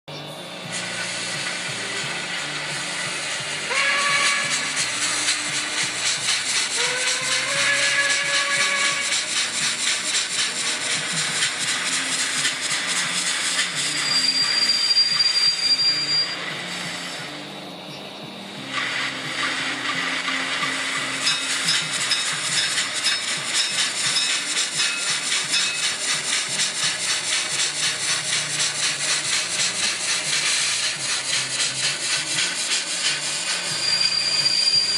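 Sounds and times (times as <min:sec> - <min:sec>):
steam engine chuffing through speaker: 0:00.2 - 0:34.9.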